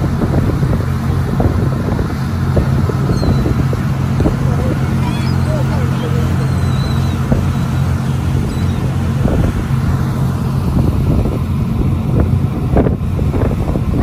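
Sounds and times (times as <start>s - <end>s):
boat engine droning: 0.0s - 14.0s
wind buffeting microphone: 0.0s - 14.0s.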